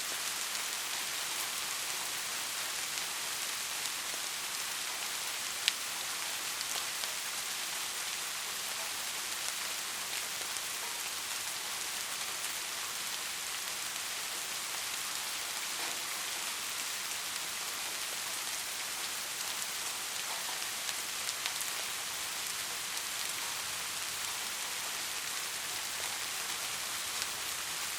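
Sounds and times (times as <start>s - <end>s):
rain hissing on a surface: 0.0s - 27.9s.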